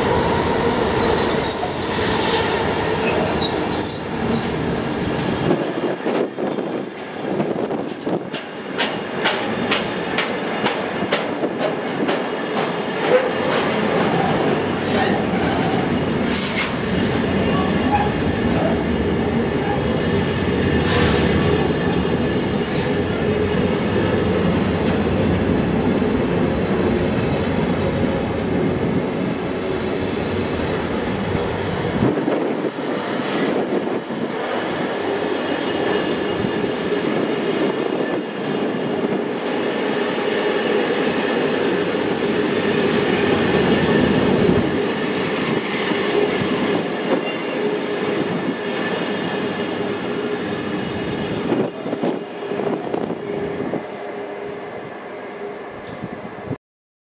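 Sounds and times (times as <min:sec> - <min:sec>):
freight train wheels on rail: 0:00.0 - 0:56.6.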